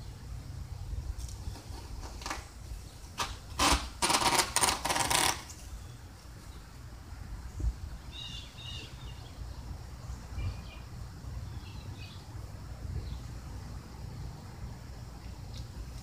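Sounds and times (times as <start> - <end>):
small birds chirping: 0.0 - 3.5, 5.4 - 16.0.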